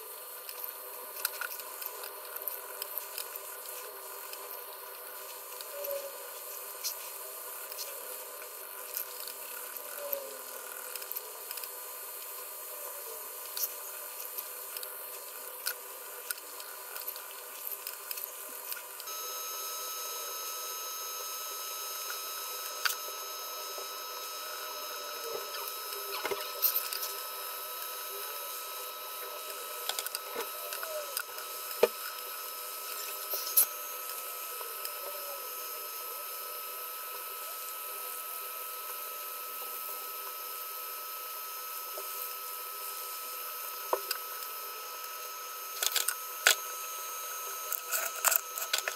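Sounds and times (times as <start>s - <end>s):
faint high electronic whine: 0.0s - 48.9s.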